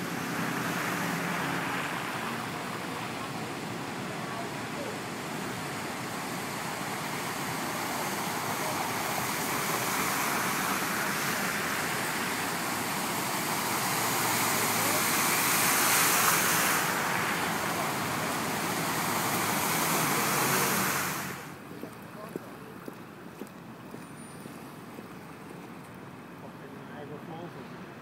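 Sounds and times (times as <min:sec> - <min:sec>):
cars driving through floodwater: 0:00.0 - 0:28.0.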